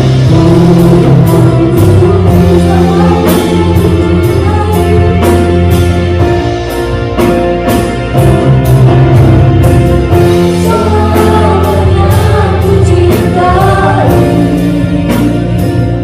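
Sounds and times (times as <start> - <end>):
live band with singers: 0.0 - 16.0.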